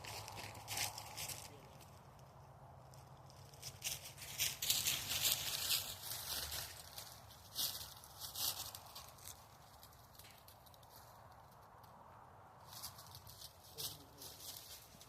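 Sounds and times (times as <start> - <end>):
dry rustling and crackling: 0.0 - 15.0.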